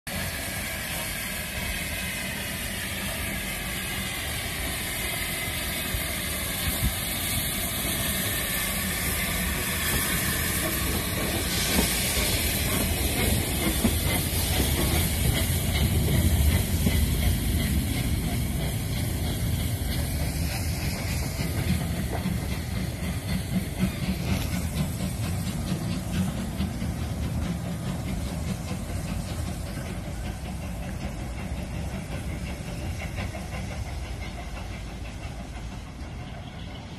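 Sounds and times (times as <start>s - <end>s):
steam hiss: 0.1s - 36.9s
train wheels rumbling on rails: 0.1s - 36.9s.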